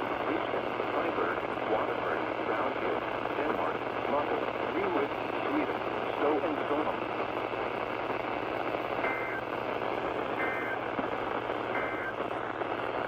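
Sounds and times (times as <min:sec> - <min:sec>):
radio static: 0:00.0 - 0:13.0.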